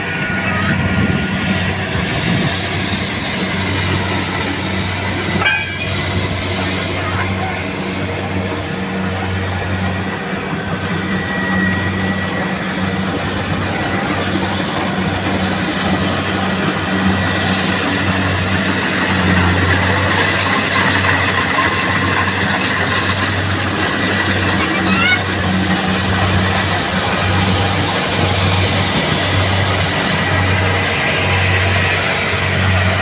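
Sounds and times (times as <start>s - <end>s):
combine harvester engine drone: 0.0s - 33.0s
machinery clatter: 0.0s - 33.0s.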